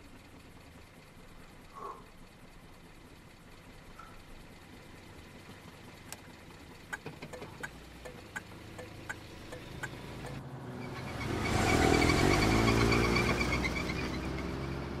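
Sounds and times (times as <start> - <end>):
car driving on highway: 0.0 - 15.0.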